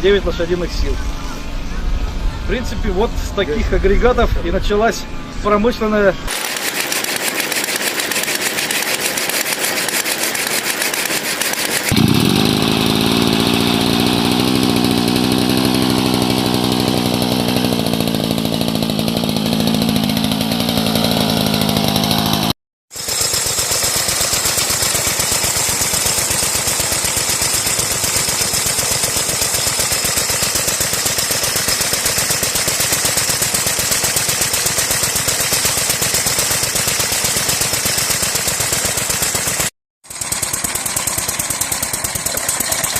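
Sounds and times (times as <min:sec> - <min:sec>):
chainsaw engine running: 0:06.3 - 0:42.9.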